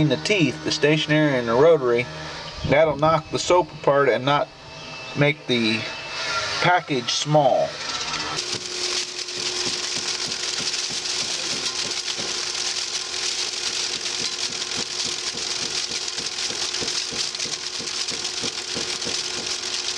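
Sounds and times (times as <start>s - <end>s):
machine rotor hum and hiss: 0.0s - 19.9s.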